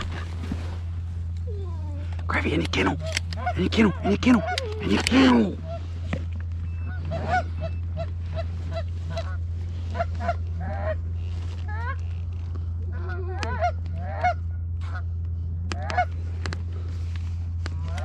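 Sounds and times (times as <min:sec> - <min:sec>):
low hum: 0:00.0 - 0:18.0
geese honking and clucking: 0:02.4 - 0:16.6, 0:17.5 - 0:18.0.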